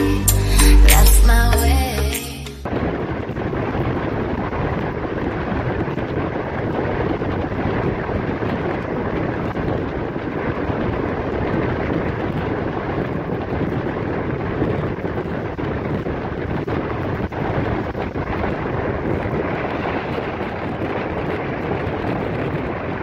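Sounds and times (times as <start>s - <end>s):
wind on microphone: 2.6s - 23.0s.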